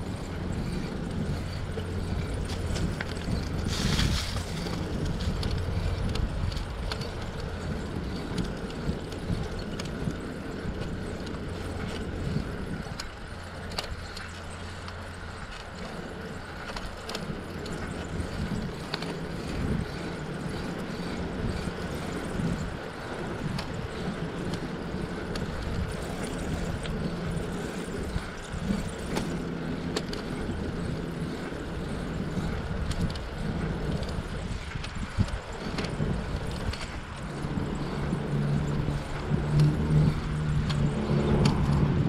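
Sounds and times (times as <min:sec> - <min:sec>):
bicycle tyre rumble on pavement: 0:00.0 - 0:42.0
bike clicks and rattles: 0:00.0 - 0:42.0.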